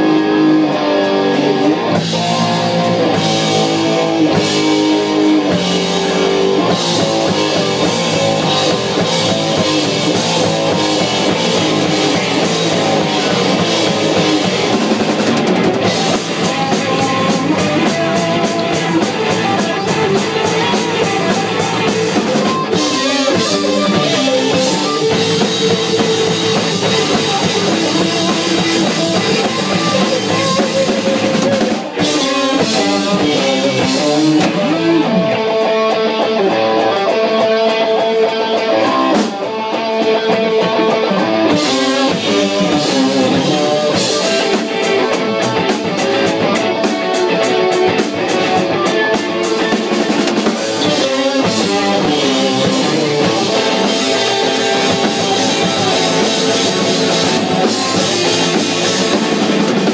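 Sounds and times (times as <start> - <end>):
rock band playing instrumental: 0.0 - 59.9.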